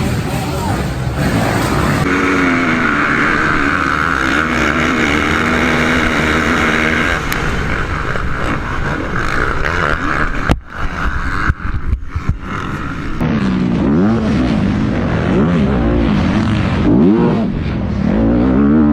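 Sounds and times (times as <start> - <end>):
dirt bike engines revving: 0.0 - 18.9.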